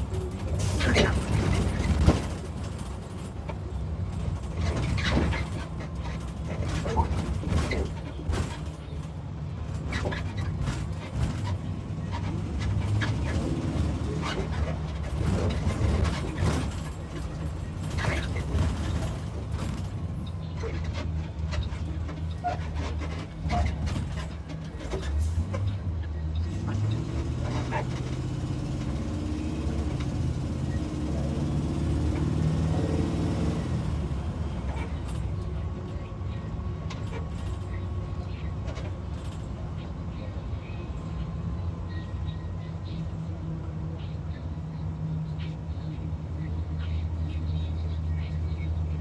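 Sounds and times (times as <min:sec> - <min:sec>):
bus engine drone: 0:00.0 - 0:49.0.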